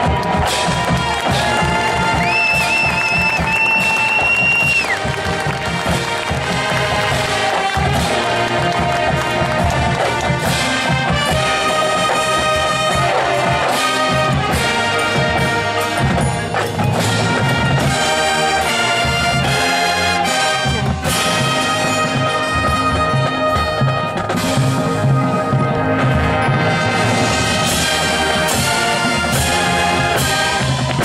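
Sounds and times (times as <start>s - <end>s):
drum and percussion strokes: 0.0s - 31.0s
brass sustained chords: 5.0s - 31.0s.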